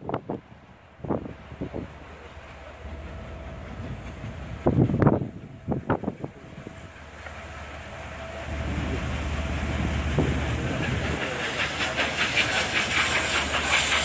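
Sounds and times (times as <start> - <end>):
deep rumble: 0.0 - 14.0
steam locomotive exhaust beats: 0.0 - 14.0
hiss of steam: 0.8 - 14.0.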